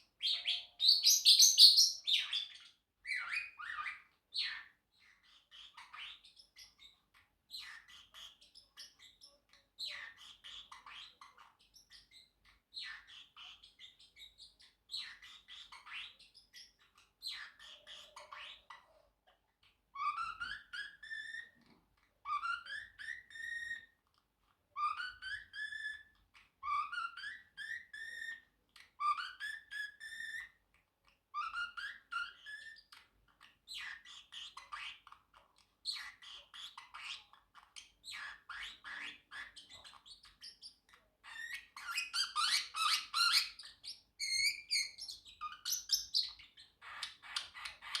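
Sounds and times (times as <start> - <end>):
parrotlet chirping: 0.0 - 48.0.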